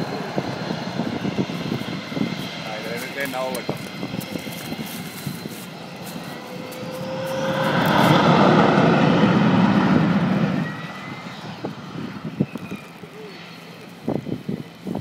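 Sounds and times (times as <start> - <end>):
aircraft engine flying past: 0.0 - 15.0.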